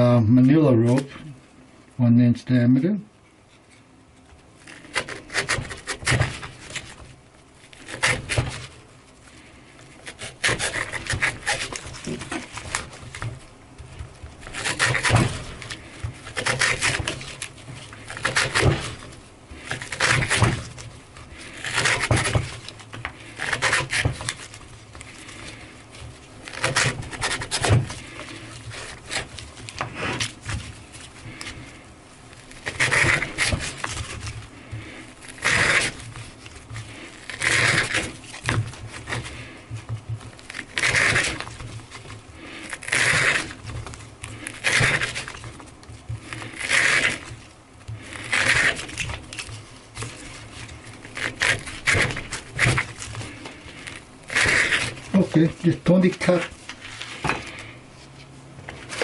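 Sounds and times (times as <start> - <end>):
knife slicing through rope: 4.6 - 7.0, 7.7 - 8.8, 10.0 - 39.8, 40.5 - 57.8.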